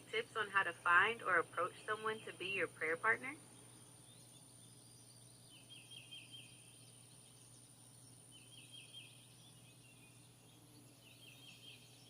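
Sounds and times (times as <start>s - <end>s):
faint bird song: 0.0s - 12.0s
steady high-pitched whine: 0.0s - 12.0s.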